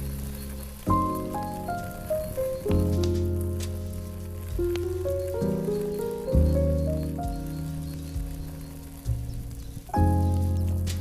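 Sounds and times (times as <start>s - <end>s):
background music with sustained chords: 0.0s - 11.0s.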